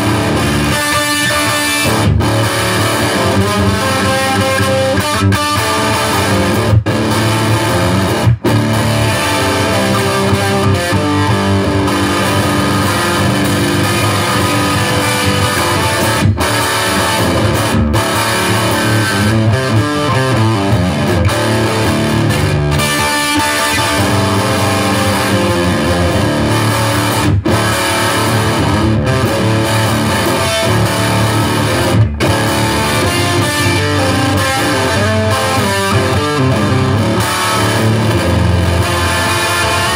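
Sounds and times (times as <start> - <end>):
electric guitar blues riff: 0.0 - 39.9.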